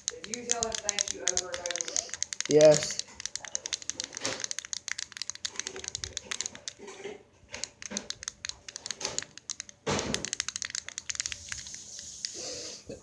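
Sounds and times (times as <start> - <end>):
fidget cube buttons clicking: 0.0 - 6.8, 7.6 - 12.4.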